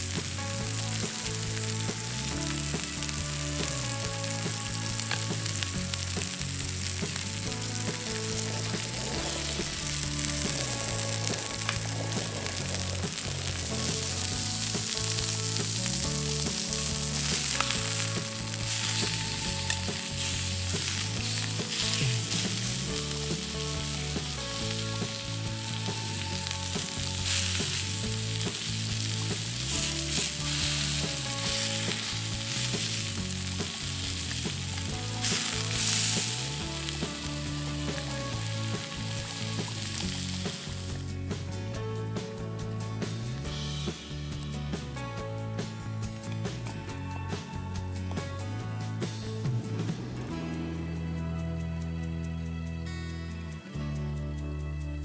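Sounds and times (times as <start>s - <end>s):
steak and onions sizzling: 0.0s - 52.6s.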